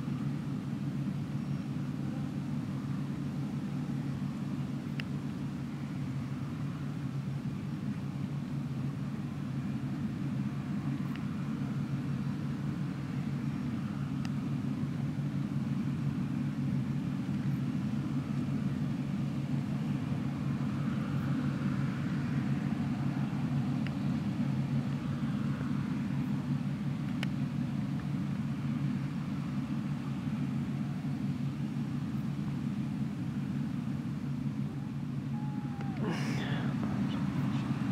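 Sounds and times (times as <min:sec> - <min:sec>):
combine harvester diesel drone: 0:00.0 - 0:37.9.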